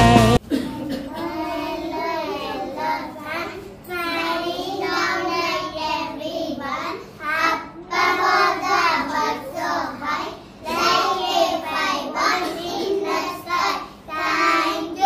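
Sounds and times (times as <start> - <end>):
young children singing: 0.5 - 15.0.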